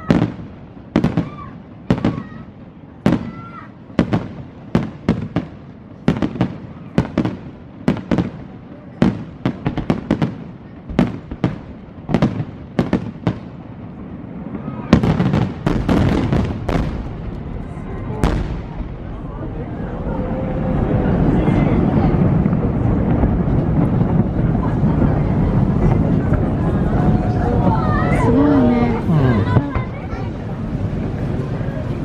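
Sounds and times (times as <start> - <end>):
fireworks bursting: 0.0 - 32.0.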